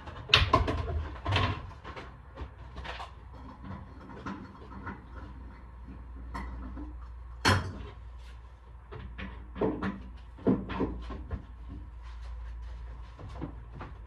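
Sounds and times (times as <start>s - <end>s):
knocks and clunks of handling: 0.0s - 14.0s.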